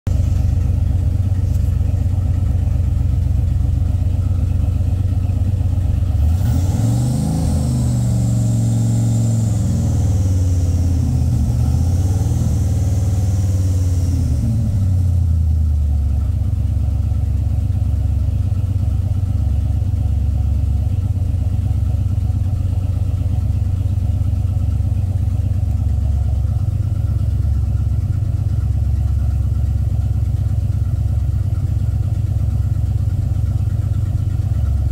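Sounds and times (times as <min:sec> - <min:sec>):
car engine idling and revving: 0:00.0 - 0:34.9
faint high engine whine: 0:00.1 - 0:34.9.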